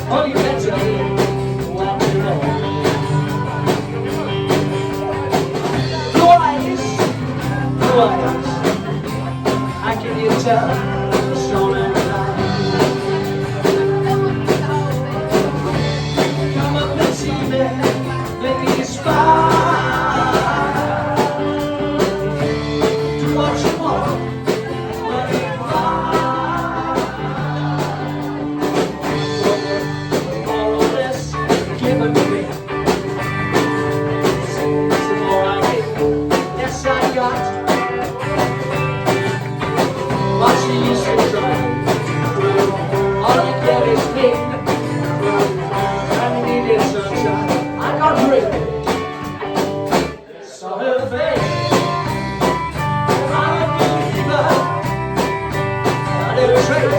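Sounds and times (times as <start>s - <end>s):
instrumental rock music: 0.0s - 50.3s, 51.1s - 56.9s.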